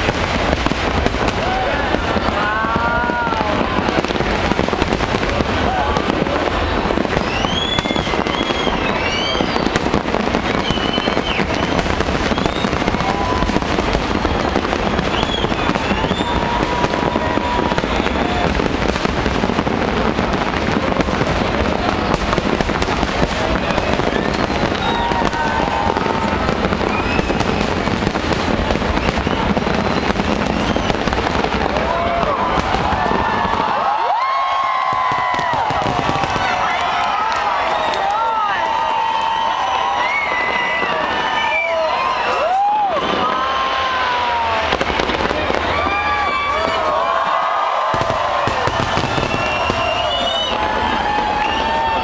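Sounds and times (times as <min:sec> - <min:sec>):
fireworks crackling and banging: 0:00.0 - 0:52.0
fireworks whistling: 0:00.0 - 0:52.0.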